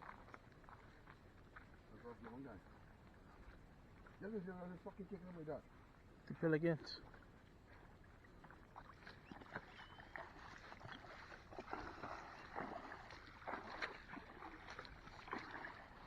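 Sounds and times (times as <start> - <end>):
water lapping and splashing: 0.0 - 16.0.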